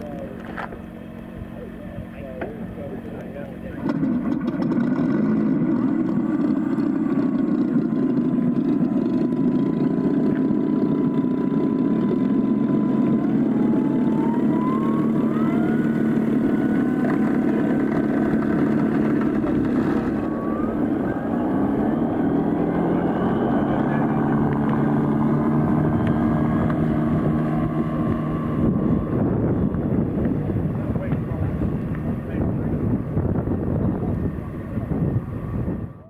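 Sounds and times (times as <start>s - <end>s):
electric motor whine: 0.0s - 36.0s
steady loud rumble: 0.0s - 36.0s.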